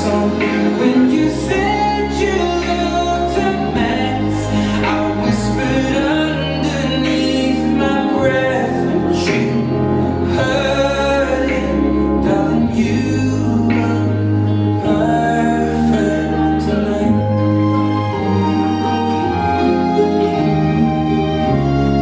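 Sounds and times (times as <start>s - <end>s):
long held bass notes: 0.0s - 22.0s
person singing: 0.0s - 22.0s.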